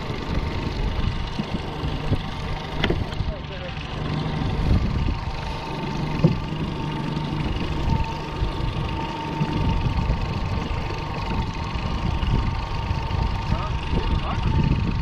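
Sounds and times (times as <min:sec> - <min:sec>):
outboard motor running: 0:00.0 - 0:15.0
rush of wind and water: 0:00.0 - 0:15.0.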